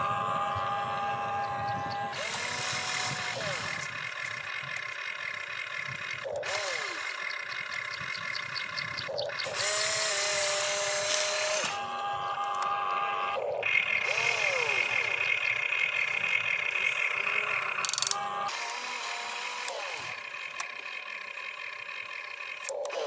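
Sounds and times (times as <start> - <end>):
electric motors whining: 0.0 - 23.0.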